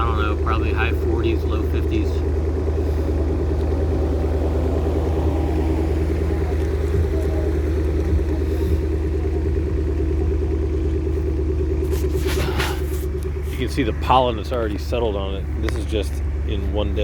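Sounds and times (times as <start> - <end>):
car engine fast idle: 0.0 - 17.0.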